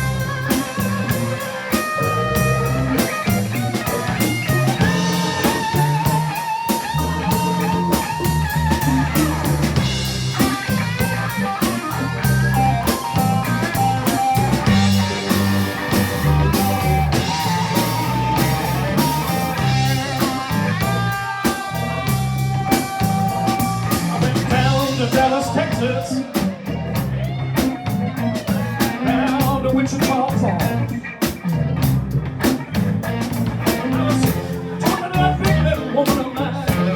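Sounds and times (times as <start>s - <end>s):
bass: 0.0s - 36.9s
drums: 0.0s - 36.9s
electric guitar lead with bent notes: 0.0s - 36.9s.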